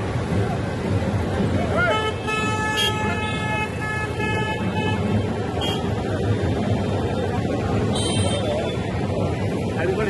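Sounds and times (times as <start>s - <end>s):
rumble of road traffic: 0.0s - 10.0s.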